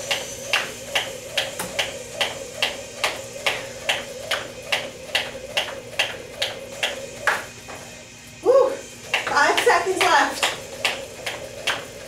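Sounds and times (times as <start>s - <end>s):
jump rope ticking on floor: 0.0s - 7.8s, 9.0s - 12.0s.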